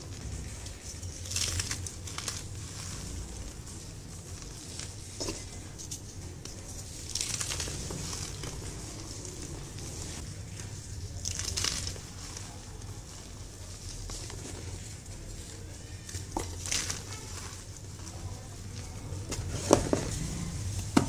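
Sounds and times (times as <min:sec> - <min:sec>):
chalk crunching in hands: 0:00.0 - 0:18.8.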